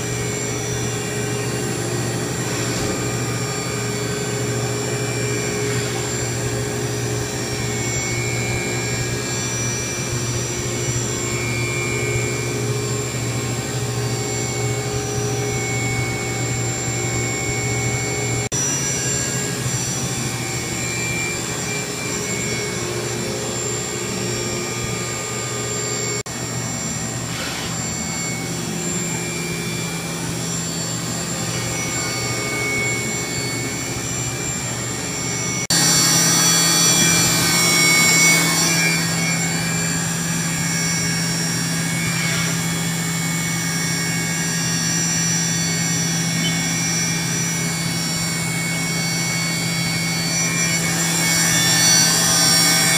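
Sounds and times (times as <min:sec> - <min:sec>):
milling machine whirring: 0:00.0 - 0:52.9.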